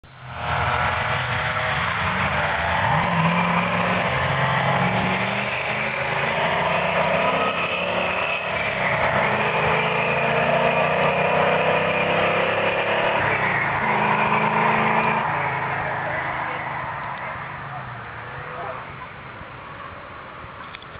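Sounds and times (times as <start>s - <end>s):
car engine revving: 0.2s - 17.8s.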